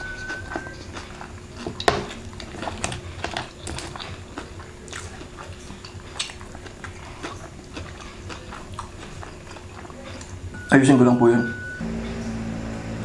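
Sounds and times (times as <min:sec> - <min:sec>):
crunching and chewing: 0:00.0 - 0:10.5.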